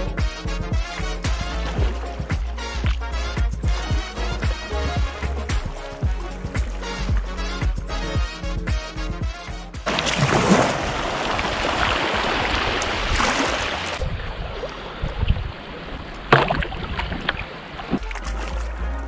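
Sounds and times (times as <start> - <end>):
water rushing past kayak hull: 0.4 - 8.1, 9.8 - 19.0
kayak paddle strokes splashing: 0.8 - 7.6, 9.8 - 19.0.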